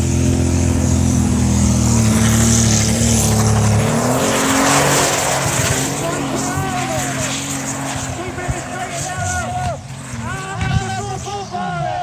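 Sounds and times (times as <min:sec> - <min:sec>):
tractor engine running under load: 0:00.0 - 0:09.8
harsh noisy tractor engine: 0:00.0 - 0:12.0.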